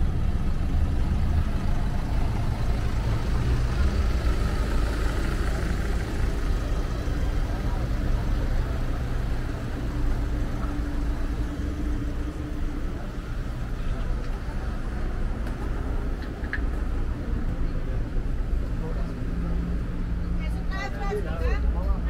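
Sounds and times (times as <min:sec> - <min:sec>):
engine rumbling: 0:00.0 - 0:22.0
street noise: 0:00.0 - 0:22.0.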